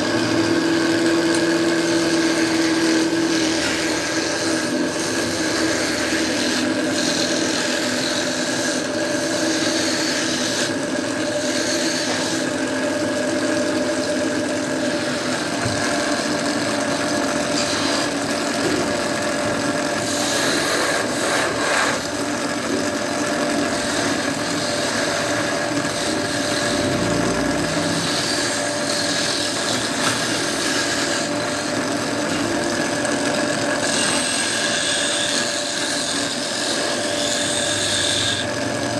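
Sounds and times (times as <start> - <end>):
chisel scraping spinning wood: 0.0 - 38.9
wood lathe humming: 0.0 - 38.9.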